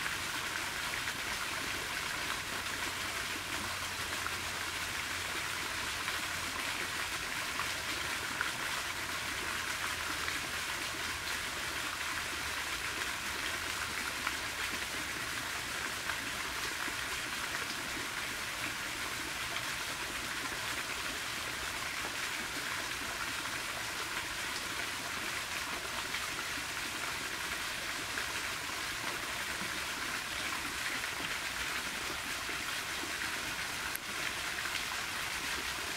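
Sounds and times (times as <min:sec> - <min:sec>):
fountain jets splashing into pond: 0:00.0 - 0:35.9.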